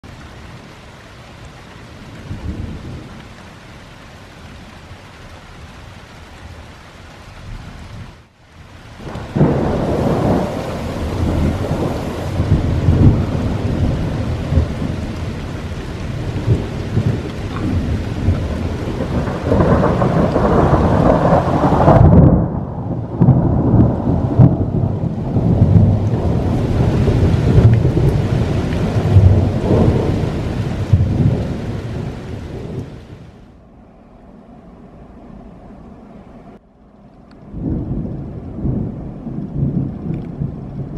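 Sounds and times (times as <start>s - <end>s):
thunder rumbling: 7.4s - 36.6s, 37.2s - 40.9s.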